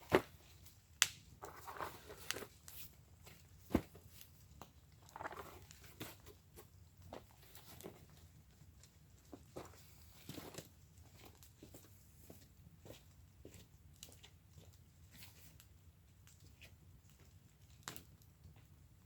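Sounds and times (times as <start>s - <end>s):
wood fire crackling and popping: 0.0s - 9.6s, 13.1s - 19.0s.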